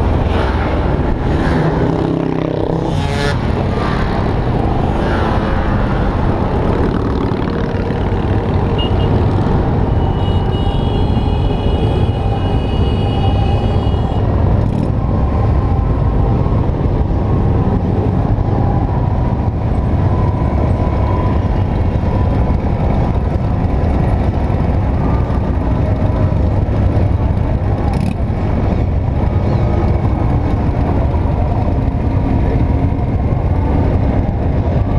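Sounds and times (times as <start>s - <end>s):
motorcycle engines rumbling: 0.0s - 34.9s.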